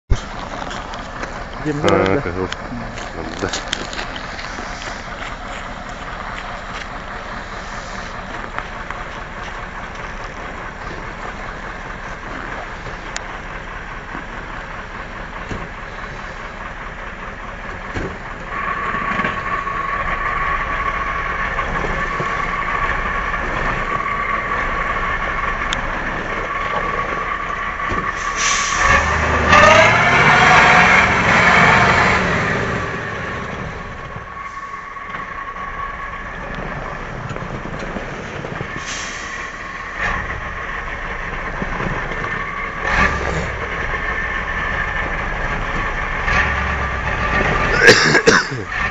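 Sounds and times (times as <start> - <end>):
truck engine running under load: 0.1 - 48.9.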